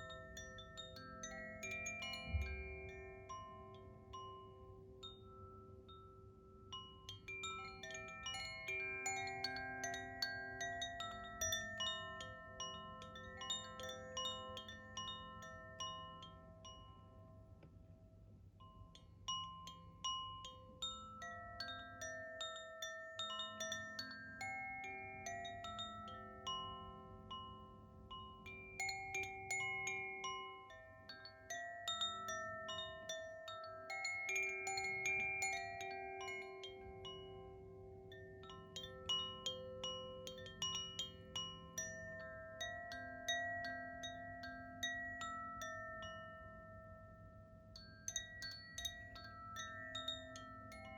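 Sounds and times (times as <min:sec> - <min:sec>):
wind chime ringing: 0:00.0 - 0:17.5, 0:18.6 - 0:50.9.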